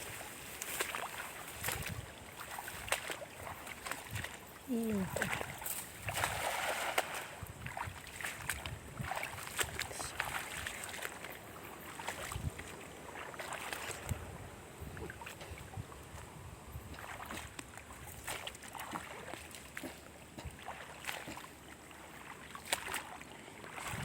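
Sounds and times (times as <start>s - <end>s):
water sloshing and splashing: 0.0s - 24.0s.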